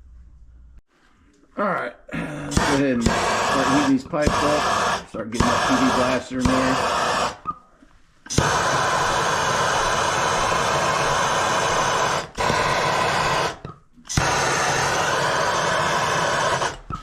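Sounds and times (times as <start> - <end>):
heating torch hissing: 2.4 - 7.5, 8.3 - 16.9.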